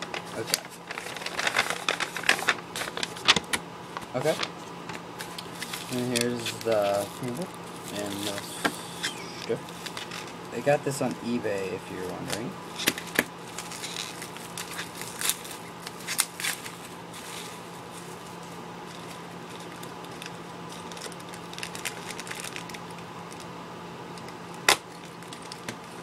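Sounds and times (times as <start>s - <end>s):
packaging crinkling: 0.0s - 4.6s, 5.2s - 8.5s, 9.4s - 10.4s, 12.2s - 23.5s, 24.2s - 26.0s
faint steady hum: 0.0s - 26.0s.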